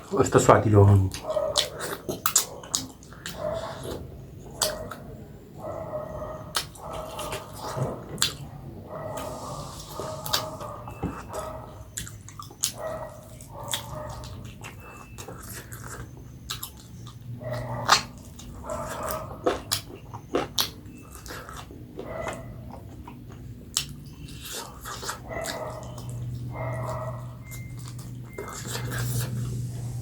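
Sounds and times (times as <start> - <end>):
person chewing food: 1.1 - 30.0.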